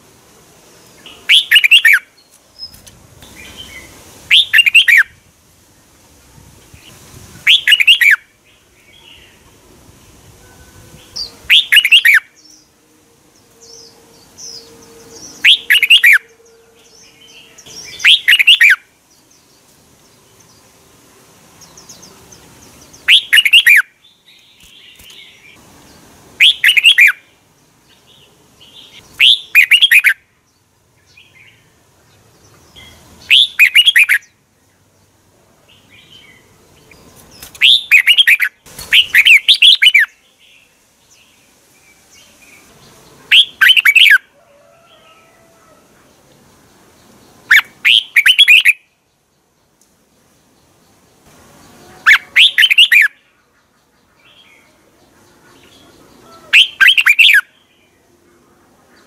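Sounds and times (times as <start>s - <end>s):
bird singing warbling phrases: 0.9s - 5.2s, 6.7s - 9.6s, 10.8s - 12.7s, 13.4s - 20.6s, 21.6s - 25.6s, 26.4s - 44.3s, 46.0s - 49.5s, 50.4s - 58.1s.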